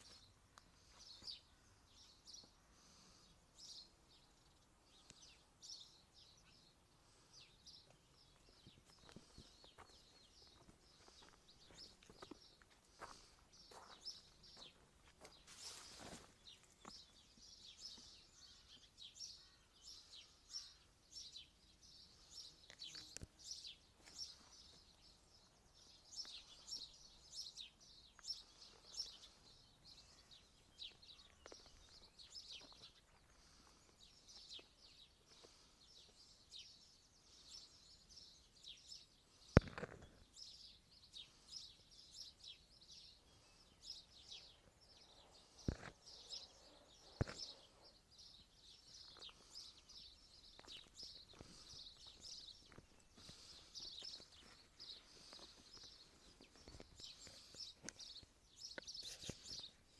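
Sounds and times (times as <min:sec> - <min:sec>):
small birds chirping and singing: 0:00.0 - 0:59.9.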